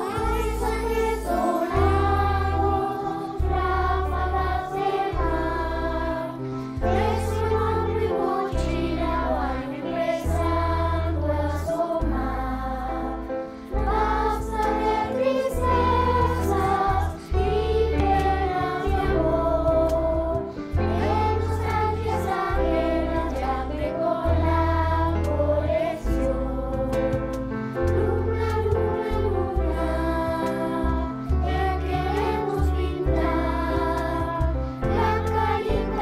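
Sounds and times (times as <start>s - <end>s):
children's choir singing: 0.0s - 36.0s
instrumental accompaniment with bass: 0.0s - 36.0s.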